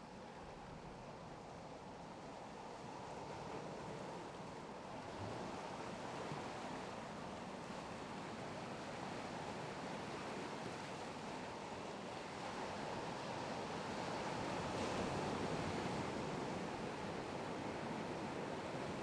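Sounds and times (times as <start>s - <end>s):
sea: 0.0s - 19.0s
wind: 0.0s - 19.0s.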